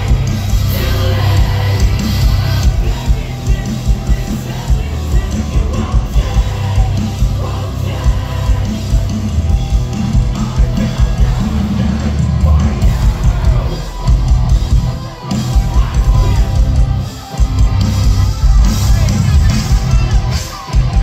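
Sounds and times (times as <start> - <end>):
person singing: 0.0 - 17.3
live metal band playing: 0.0 - 21.0.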